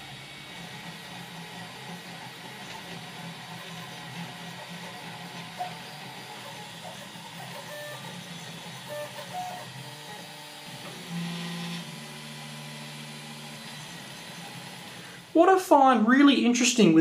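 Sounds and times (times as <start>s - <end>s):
stepper motors whining: 0.0s - 15.4s.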